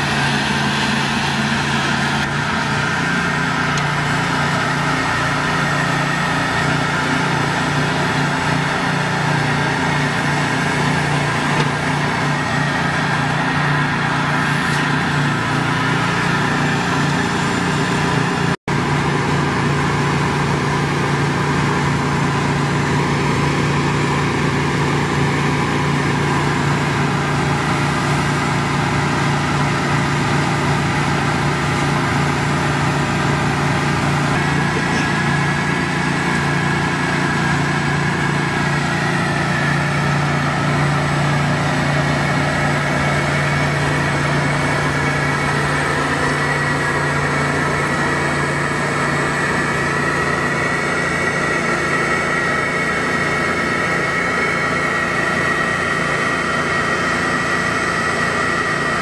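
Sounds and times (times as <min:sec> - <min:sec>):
vacuum suction through hose: 0:00.0 - 0:18.5, 0:25.3 - 0:59.0
pressure washer engine running: 0:00.0 - 0:59.0.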